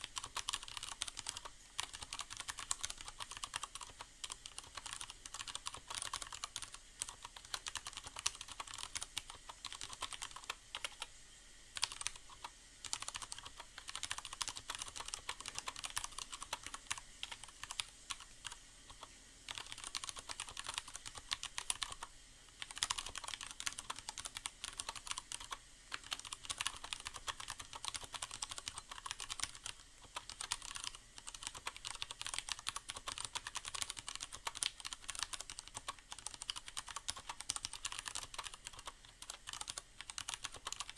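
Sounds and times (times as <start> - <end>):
mechanical keyboard typing: 0.0 - 11.1, 11.8 - 40.9.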